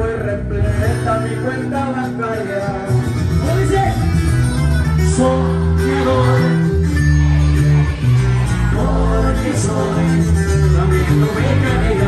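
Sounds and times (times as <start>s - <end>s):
acoustic guitar: 0.0s - 12.0s
bass guitar notes: 0.0s - 12.0s.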